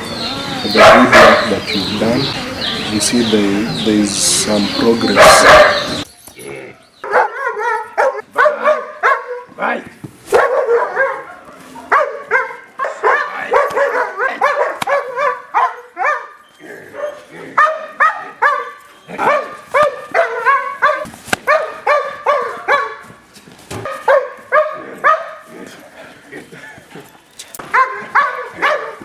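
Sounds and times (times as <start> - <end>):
dogs barking hard: 0.0 - 6.1, 6.7 - 9.5, 10.3 - 23.2, 23.8 - 29.0.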